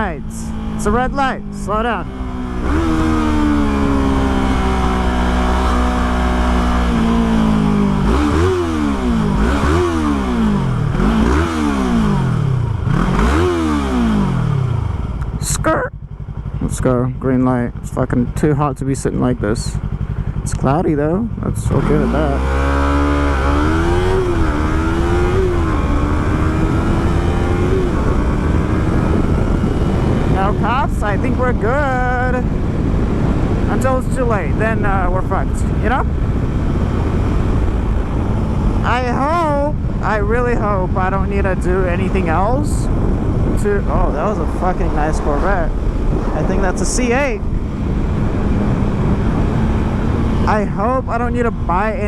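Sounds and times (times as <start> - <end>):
motorcycle engine revving: 0.0 - 52.0
wind rumble on microphone: 0.0 - 52.0.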